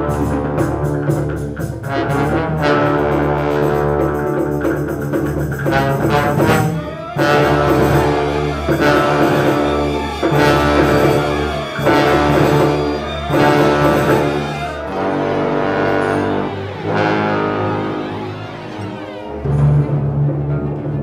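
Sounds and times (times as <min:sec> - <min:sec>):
orchestra playing sustained chords: 0:00.0 - 0:21.0.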